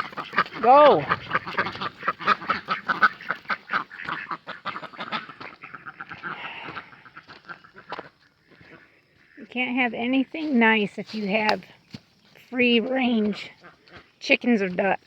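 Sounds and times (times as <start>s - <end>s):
ducks quacking: 0.0s - 9.8s, 12.6s - 15.0s.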